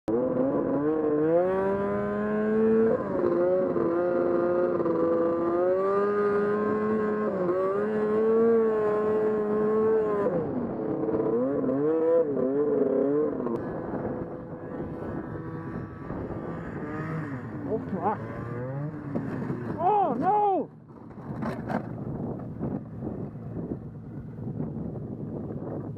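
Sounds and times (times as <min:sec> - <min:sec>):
snowmobile engine running: 0:00.1 - 0:25.9.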